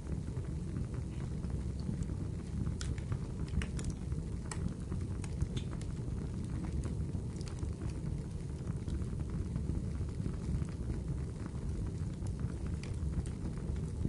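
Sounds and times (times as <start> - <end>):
low rumble of flames: 0.0 - 14.0
wood crackling and popping: 0.0 - 14.0.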